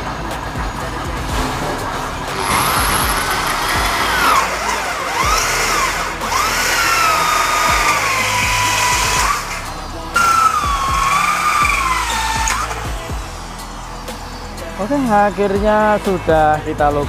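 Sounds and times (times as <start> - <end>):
hole saw squealing through metal: 1.8 - 16.8.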